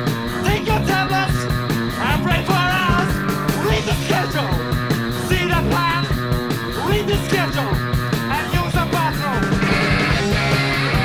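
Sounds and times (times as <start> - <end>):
post-punk rock band playing: 0.0 - 11.0.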